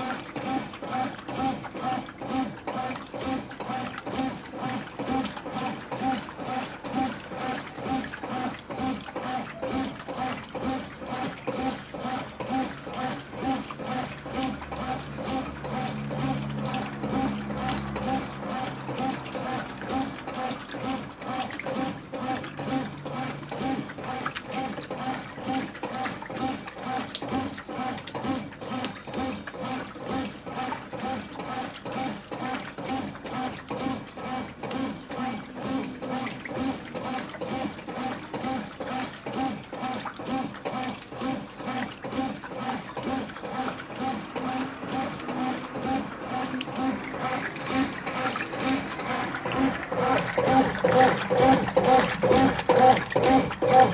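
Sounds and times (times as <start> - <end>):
washing machine motor: 0.0 - 53.9
water sloshing in washing machine: 0.0 - 53.9.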